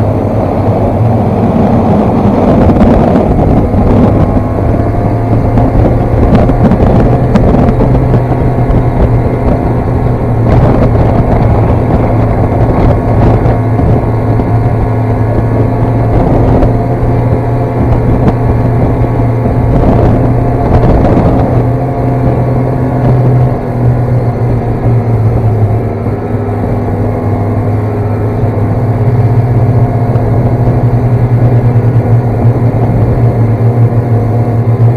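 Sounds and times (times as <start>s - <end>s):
snowmobile engine droning: 0.0s - 34.9s.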